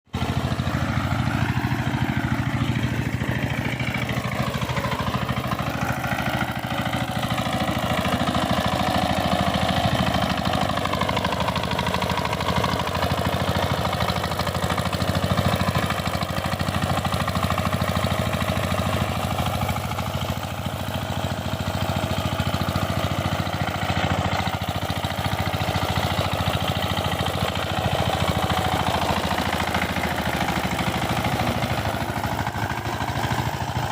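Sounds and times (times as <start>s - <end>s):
power tiller engine chugging: 0.1s - 33.9s.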